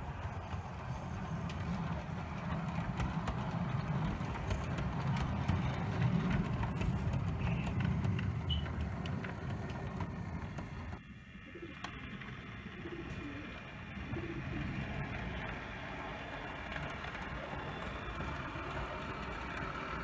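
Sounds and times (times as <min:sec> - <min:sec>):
model train rumble: 0:00.0 - 0:20.0
wheels clicking on rails: 0:00.0 - 0:20.0.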